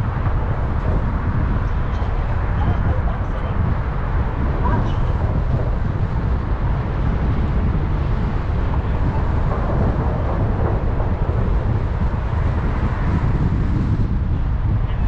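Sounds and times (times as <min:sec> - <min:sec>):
tyre and road noise: 0:00.0 - 0:15.0
wind on microphone: 0:00.0 - 0:15.0.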